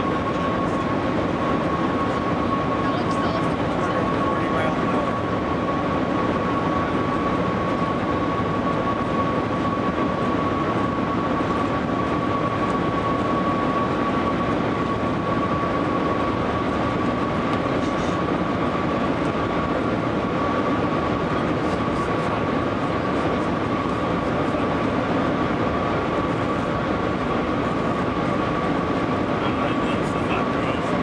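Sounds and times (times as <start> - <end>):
thin steady whine: 0.0 - 31.0.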